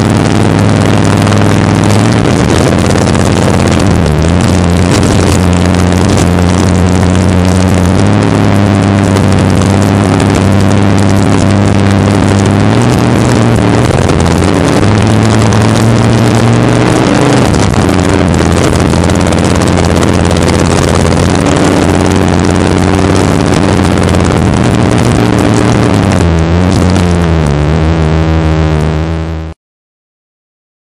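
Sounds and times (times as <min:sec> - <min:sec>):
jet boat engine running hard: 0:00.0 - 0:27.5.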